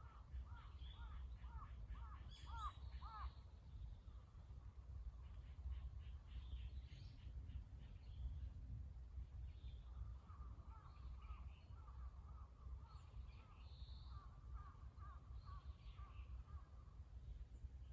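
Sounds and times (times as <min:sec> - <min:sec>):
wind rumble on microphone: 0:03.4 - 0:17.9.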